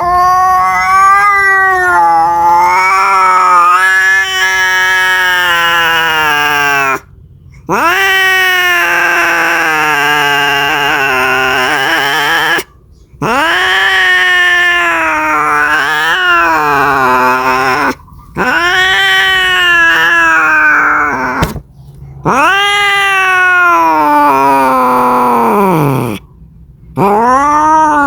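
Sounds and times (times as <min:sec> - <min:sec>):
cat yowling: 0:00.0 - 0:07.1, 0:07.7 - 0:21.6, 0:22.2 - 0:26.3, 0:26.9 - 0:28.0.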